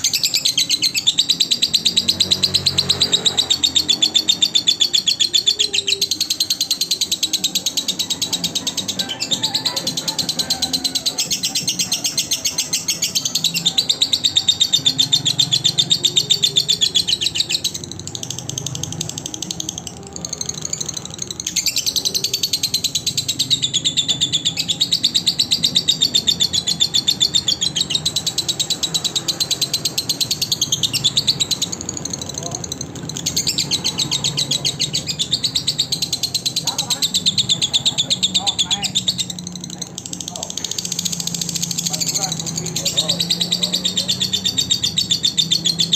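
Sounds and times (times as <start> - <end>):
lovebird chattering: 0.0 - 45.9.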